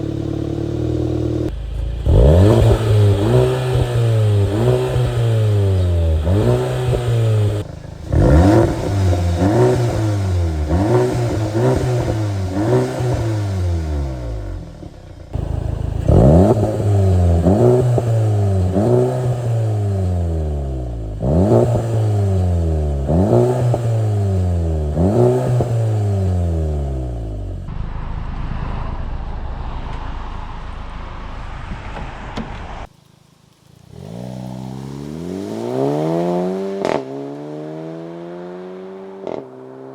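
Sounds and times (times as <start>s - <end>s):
car engine revving through exhaust: 0.0s - 27.8s, 28.8s - 39.9s
engine idling rumble: 0.0s - 35.0s.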